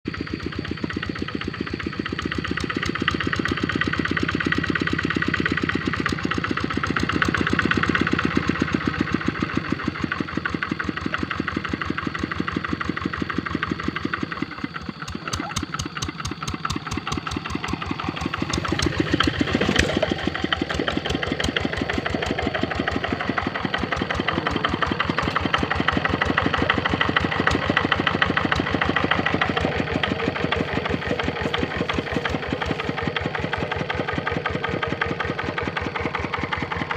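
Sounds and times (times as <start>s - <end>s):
diesel engine chugging: 0.0s - 36.9s.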